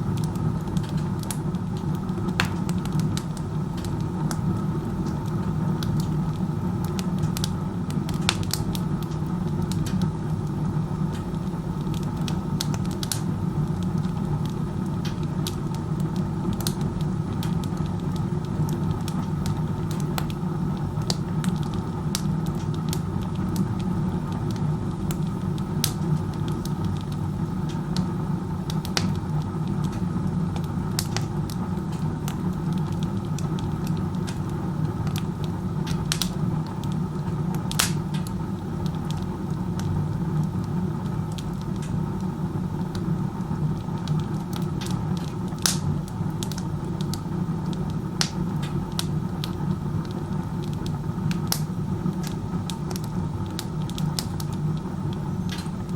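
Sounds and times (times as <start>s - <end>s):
burning wood popping: 0.0s - 55.9s.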